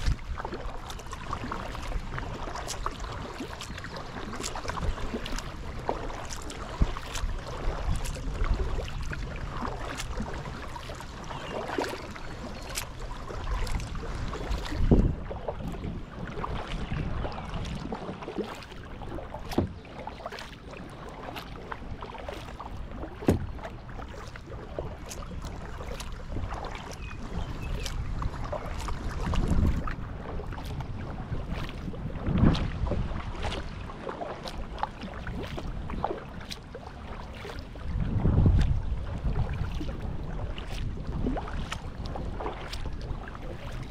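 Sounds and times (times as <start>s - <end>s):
paddle splashing in water: 0.0s - 43.9s.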